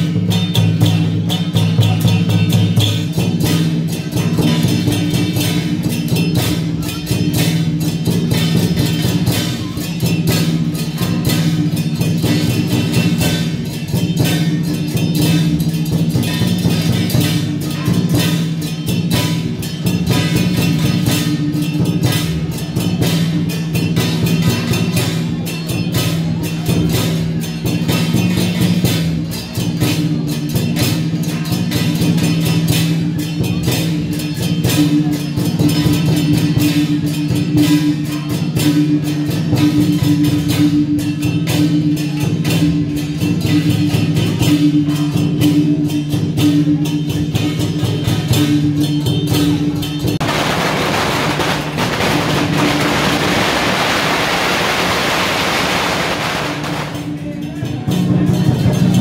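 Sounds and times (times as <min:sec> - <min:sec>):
fast drums and percussion: 0:00.0 - 0:59.0.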